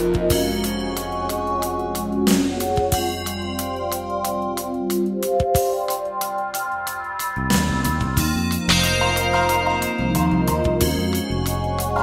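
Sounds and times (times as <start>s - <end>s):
keyboard chords over steady beat: 0.0s - 12.0s.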